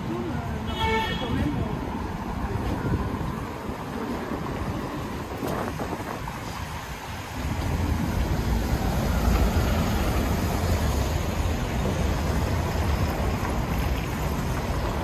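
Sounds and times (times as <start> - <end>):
bus passing: 0.0 - 15.0
cars driving on wet cobblestones: 0.0 - 15.0
wind rumble on microphone: 1.6 - 15.0.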